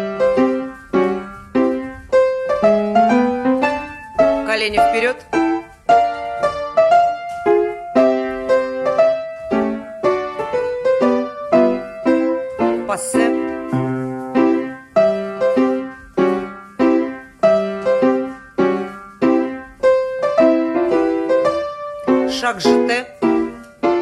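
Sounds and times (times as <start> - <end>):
piano playing rhythmic tune: 0.0 - 24.0.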